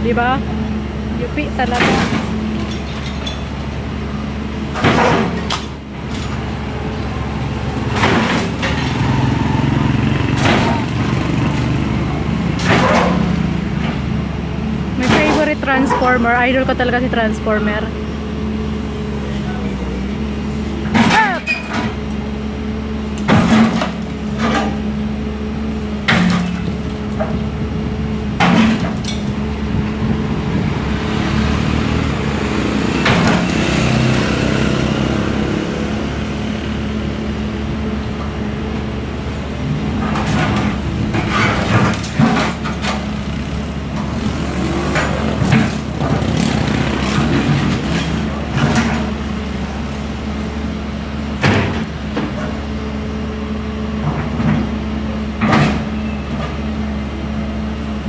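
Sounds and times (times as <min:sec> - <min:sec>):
demolition machinery engine running: 0:00.0 - 0:58.0.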